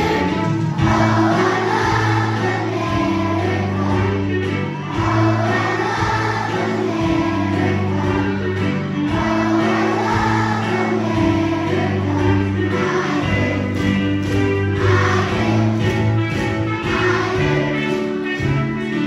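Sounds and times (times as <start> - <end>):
children's choir singing: 0.0 - 19.0
instrumental accompaniment: 0.0 - 19.0.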